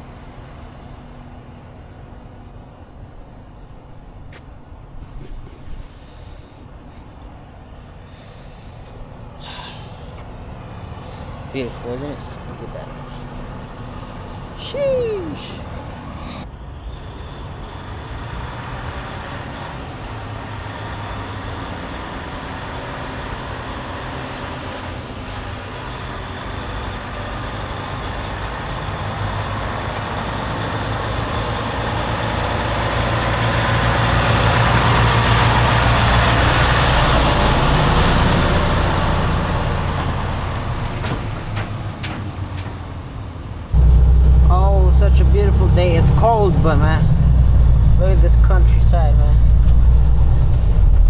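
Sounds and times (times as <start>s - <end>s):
tyre and road noise: 0.0s - 51.0s
truck diesel engine running: 5.8s - 16.4s, 18.4s - 51.0s.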